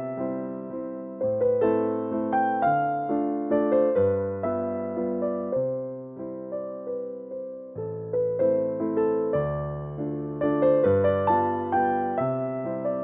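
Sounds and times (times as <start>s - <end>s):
slow gentle piano melody: 0.0s - 13.0s.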